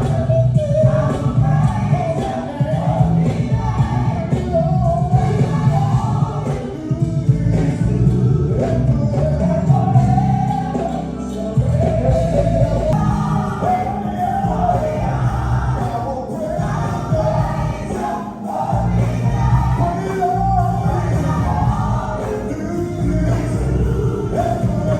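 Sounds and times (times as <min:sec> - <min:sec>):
gospel band playing: 0:00.0 - 0:24.9
group singing vocal harmonies: 0:00.0 - 0:24.9.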